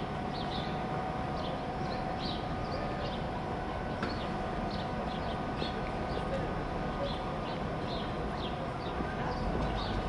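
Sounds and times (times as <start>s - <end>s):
faint steady whine: 0.0s - 10.0s
tram rolling over rails: 0.0s - 10.0s
small birds chirping: 0.3s - 3.3s, 4.0s - 10.0s.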